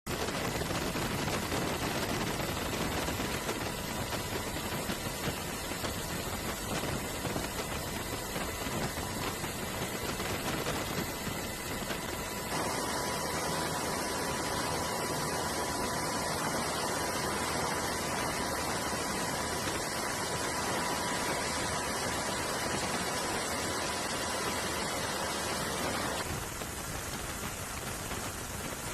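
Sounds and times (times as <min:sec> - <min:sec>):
rushing wind and sea: 0:00.1 - 0:28.9.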